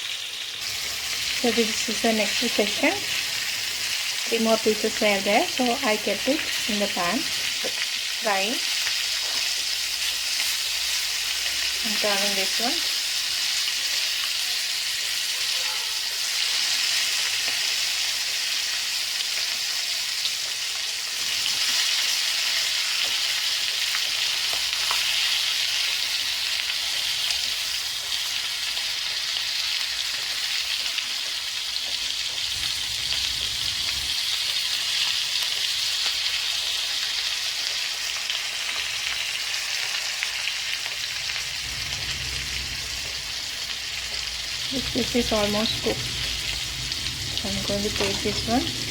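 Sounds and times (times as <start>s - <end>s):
crab deep-frying in oil: 0.0s - 48.9s.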